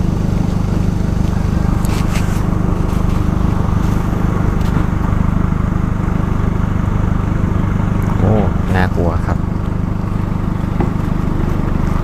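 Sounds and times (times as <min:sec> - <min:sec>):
engine running with fast throb: 0:00.0 - 0:12.0.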